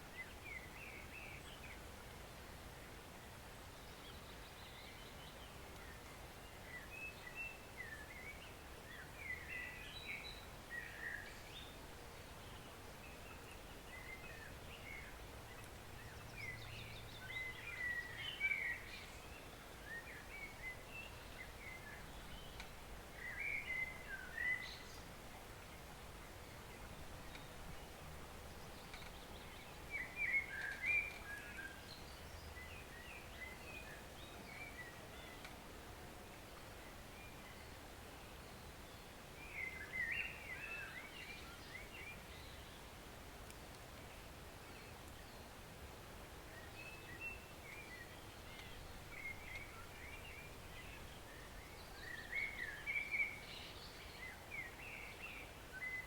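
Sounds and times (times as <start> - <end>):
forest stream rushing: 0.0 - 56.0
songbirds chirping: 0.0 - 56.0.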